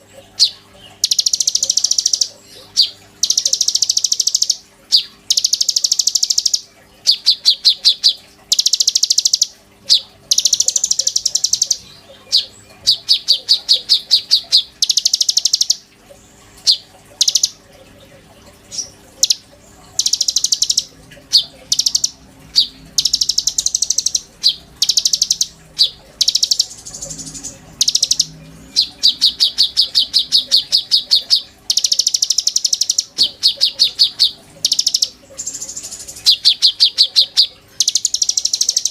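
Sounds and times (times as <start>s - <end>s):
songbird singing fast trills: 0.4s - 15.8s, 16.7s - 17.6s, 18.8s - 19.4s, 20.0s - 38.9s.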